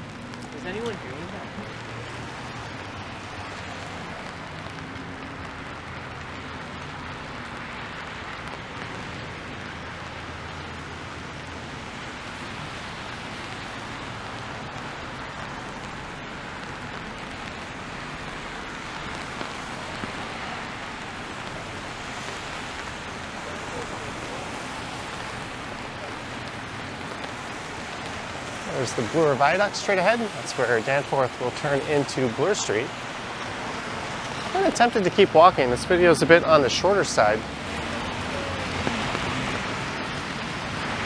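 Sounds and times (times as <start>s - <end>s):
rain on an umbrella: 0.0s - 41.0s
traffic on wet road: 0.0s - 41.0s.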